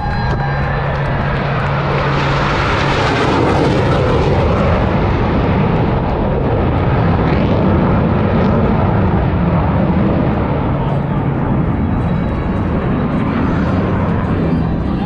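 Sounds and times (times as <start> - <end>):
jet roaring past: 0.0 - 15.0.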